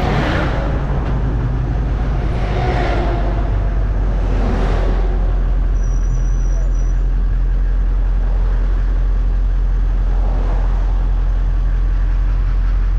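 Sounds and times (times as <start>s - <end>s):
truck engine droning inside cab: 0.0s - 12.9s.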